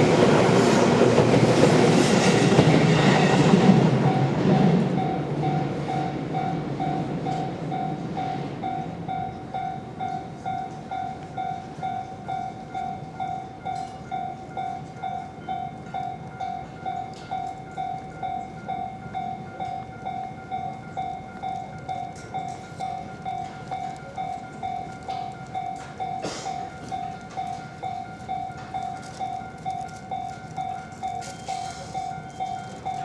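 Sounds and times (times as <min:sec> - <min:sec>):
level-crossing warning bell: 0:00.0 - 0:33.0
train passing: 0:00.0 - 0:33.0.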